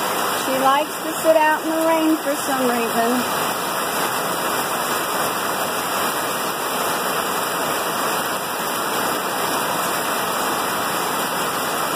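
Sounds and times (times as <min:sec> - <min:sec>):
heavy rain pouring: 0:00.0 - 0:11.9.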